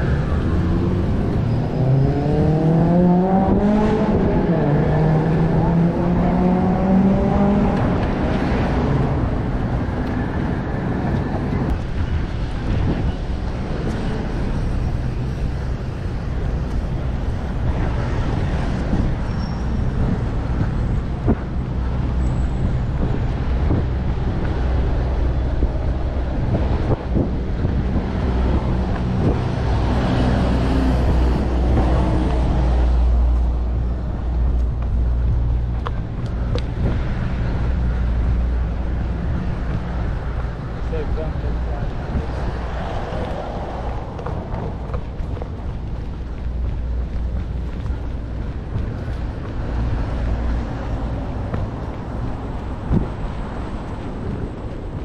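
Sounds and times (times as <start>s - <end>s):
road noise rumble: 0.0s - 55.0s
vehicle engine hum: 0.0s - 55.0s.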